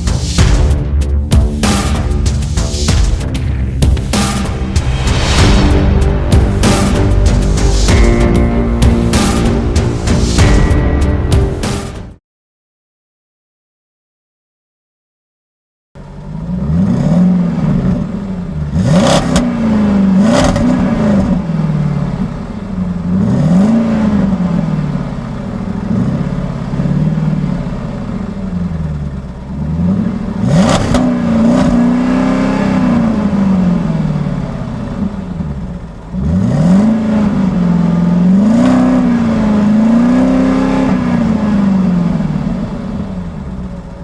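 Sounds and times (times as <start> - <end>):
car engine revving: 0.0 - 12.1, 16.1 - 44.0.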